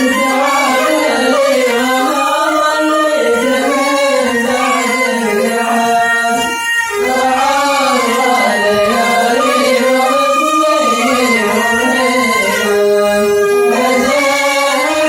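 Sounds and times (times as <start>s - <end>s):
person singing wavering melody: 0.0s - 15.0s.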